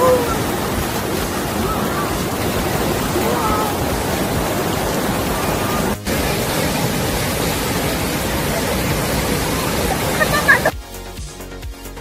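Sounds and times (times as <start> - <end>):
rushing white water rapids: 0.0 - 10.8.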